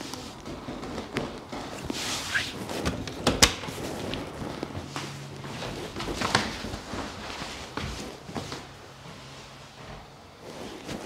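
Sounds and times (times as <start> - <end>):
shuffling: 0.0 - 11.0.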